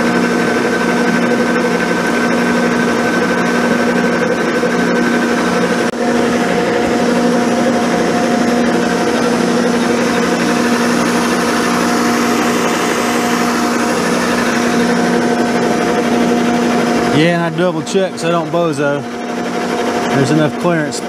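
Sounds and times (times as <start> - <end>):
milling machine hum: 0.0 - 21.0
rough metal cutting noise: 0.0 - 21.0.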